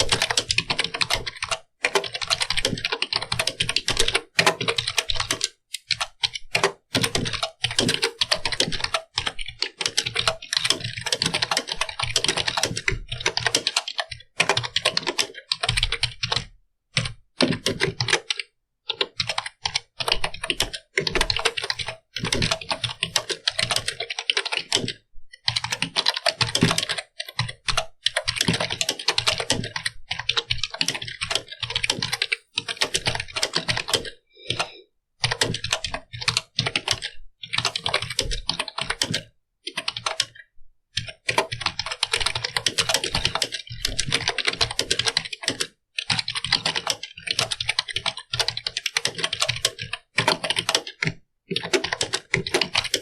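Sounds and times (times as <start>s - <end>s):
keyboard typing clicks: 0.0s - 40.4s, 41.0s - 53.0s.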